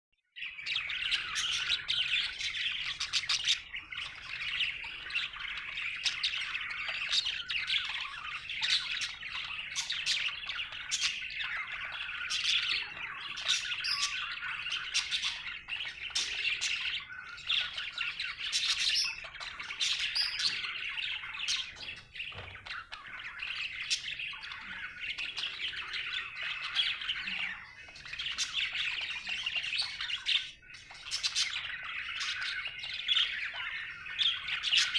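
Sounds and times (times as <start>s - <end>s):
budgerigar chirping and chattering: 0.4s - 34.9s.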